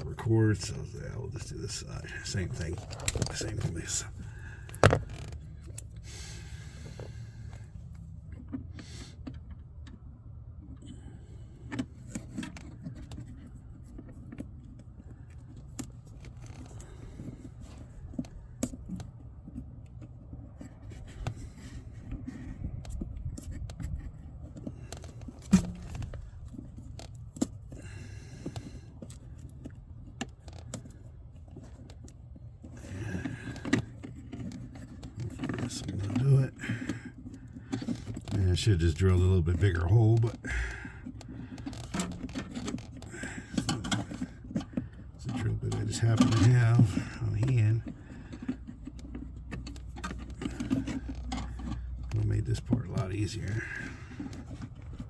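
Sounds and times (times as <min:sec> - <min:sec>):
scrapes and clicks on plastic parts: 0:00.0 - 0:11.0, 0:11.6 - 0:55.0
steady low hum: 0:00.0 - 0:55.0.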